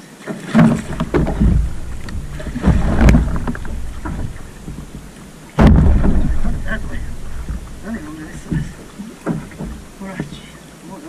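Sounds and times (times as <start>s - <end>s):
water splashing: 0.0s - 11.0s
wind buffeting microphone: 0.7s - 10.0s.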